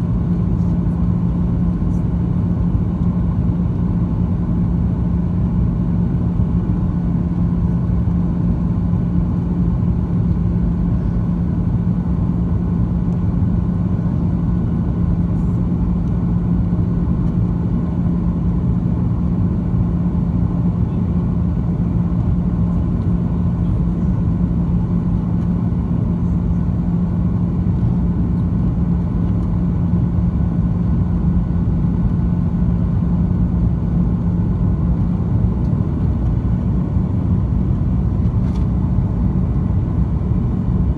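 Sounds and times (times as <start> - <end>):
airplane cabin engine drone: 0.0 - 40.9.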